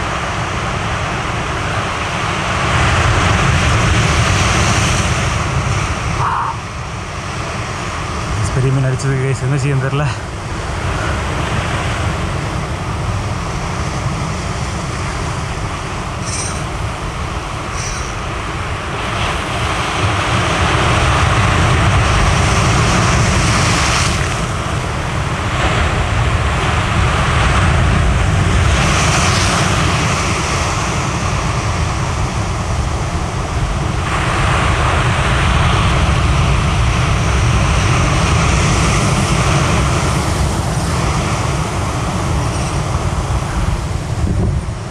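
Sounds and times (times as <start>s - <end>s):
wind rumbling on microphone: 0.0s - 44.9s
ocean waves breaking on rocks: 0.1s - 44.9s.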